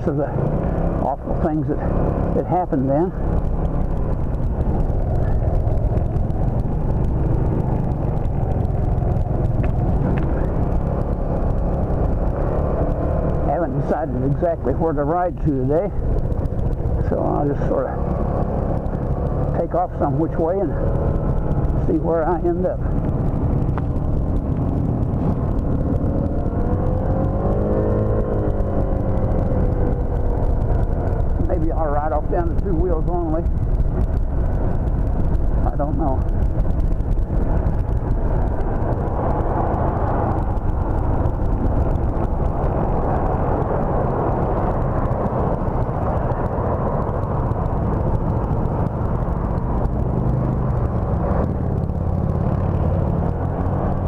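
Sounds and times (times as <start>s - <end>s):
scooter engine drone: 0.0s - 54.0s
wind rush: 0.0s - 54.0s.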